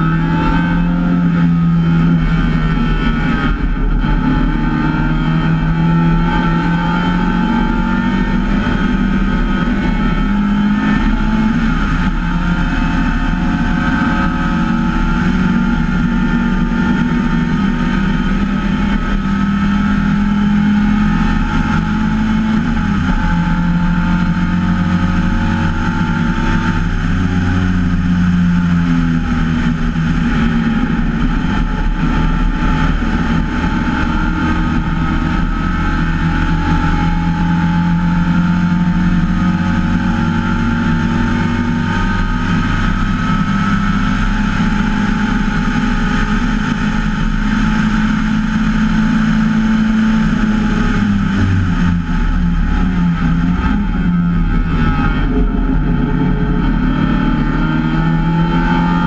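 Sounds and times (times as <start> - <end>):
race car engine revving: 0.0 - 59.0
wind and road noise: 0.0 - 59.0.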